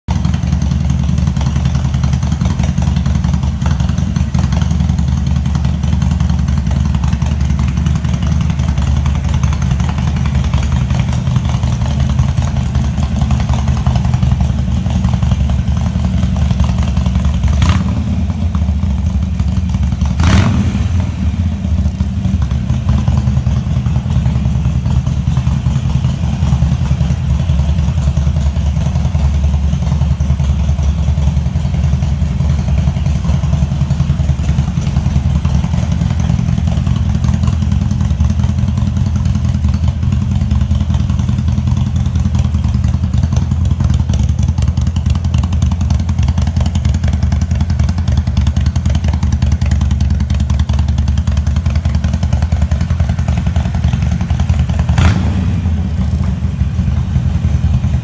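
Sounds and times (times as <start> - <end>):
motorcycle engine idling: 0.1 - 58.0.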